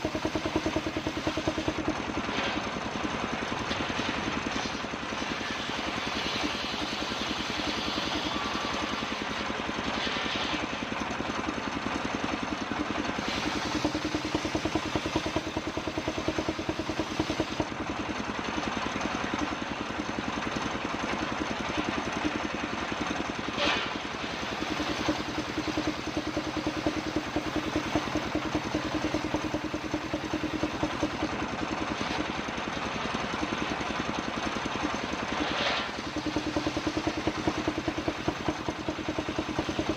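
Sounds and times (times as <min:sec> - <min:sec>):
engine powering sawmill: 0:00.0 - 0:39.9.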